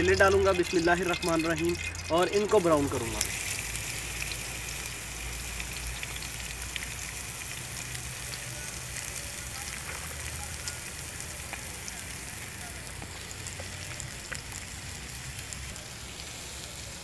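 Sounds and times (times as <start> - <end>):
vegetables sizzling in hot fat: 0.0 - 17.0.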